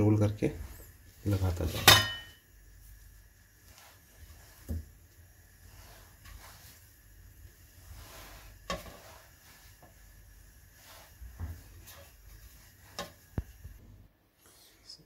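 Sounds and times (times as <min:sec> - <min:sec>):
hands shaping soft patties: 0:00.0 - 0:01.9, 0:02.5 - 0:13.8.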